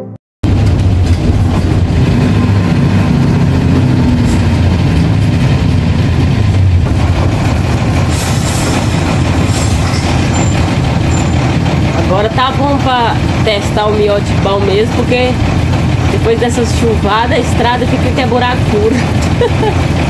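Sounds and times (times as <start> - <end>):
bus engine and road rumble: 0.4 - 20.0.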